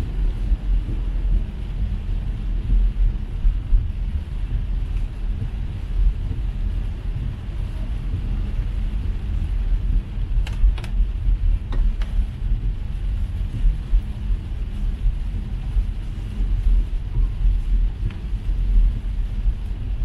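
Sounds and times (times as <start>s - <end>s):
car rumble on wet road: 0.0s - 20.0s
heavy rain and tyre spray: 0.0s - 20.0s.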